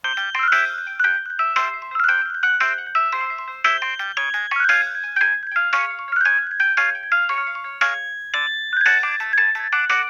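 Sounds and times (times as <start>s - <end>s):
mobile phone polyphonic ringtone: 0.0s - 10.0s.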